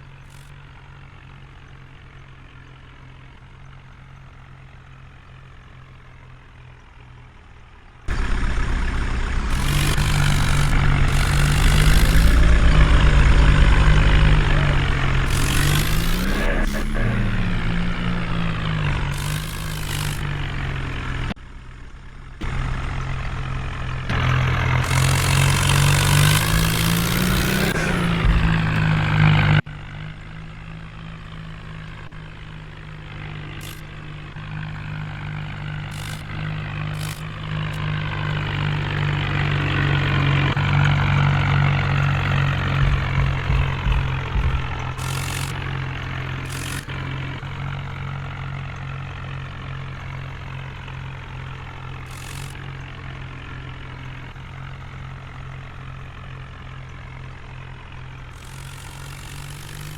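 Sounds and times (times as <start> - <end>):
heavy diesel engine revving: 8.1 - 59.9.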